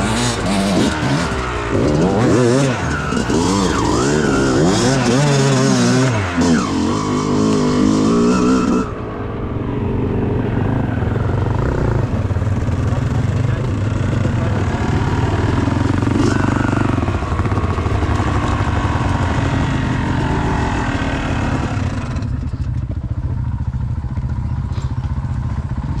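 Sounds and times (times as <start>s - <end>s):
dirt bike engine revving: 0.0s - 22.6s.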